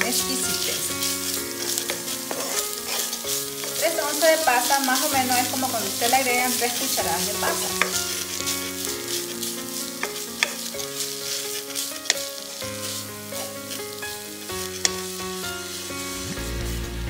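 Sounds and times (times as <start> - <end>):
spatula stirring and scraping: 0.0 - 16.7
food sizzling in frying pan: 0.0 - 17.0.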